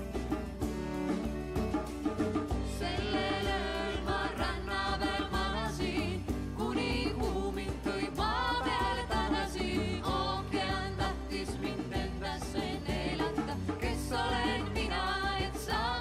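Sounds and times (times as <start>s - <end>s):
women singing: 2.6s - 16.0s.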